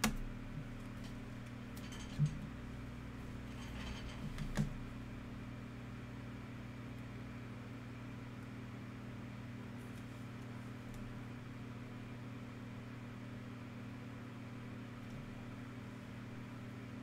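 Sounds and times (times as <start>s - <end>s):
electrical fan hum: 0.0s - 17.0s.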